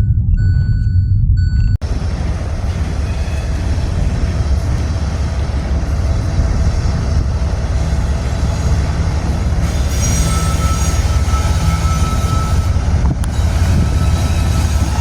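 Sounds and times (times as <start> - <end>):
train rolling past: 1.8 - 15.0.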